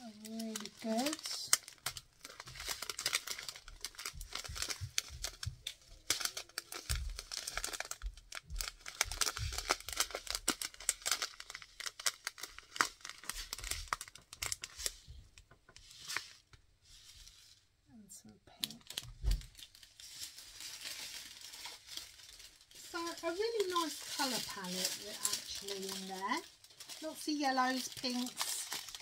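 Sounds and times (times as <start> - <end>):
plastic bags crinkling: 0.0 - 16.4, 18.6 - 29.0.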